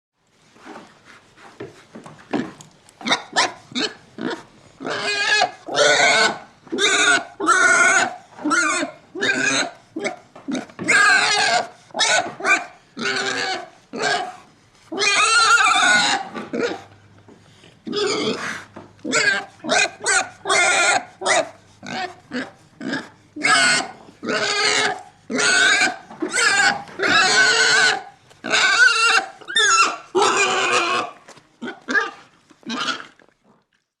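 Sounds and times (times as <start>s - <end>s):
pig grunting and squealing: 2.3s - 17.0s, 17.8s - 33.4s.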